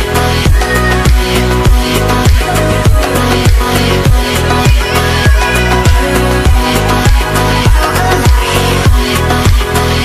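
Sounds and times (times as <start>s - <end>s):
heavy kick drum: 0.0s - 9.7s
sustained synth chords: 0.9s - 9.4s.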